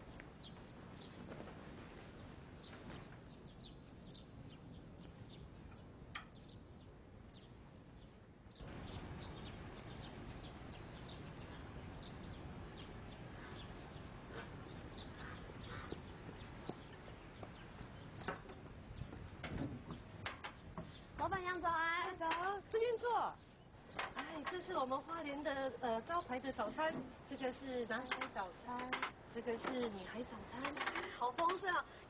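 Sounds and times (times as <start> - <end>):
small birds chirping: 0.0 - 32.0
steady background hiss: 0.0 - 32.0.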